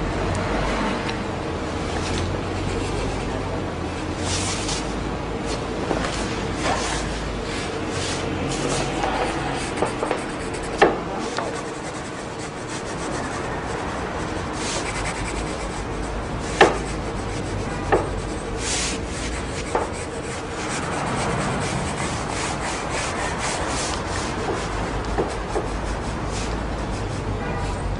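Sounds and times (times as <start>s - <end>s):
pen scratching on paper: 2.0s - 5.0s, 7.9s - 27.7s.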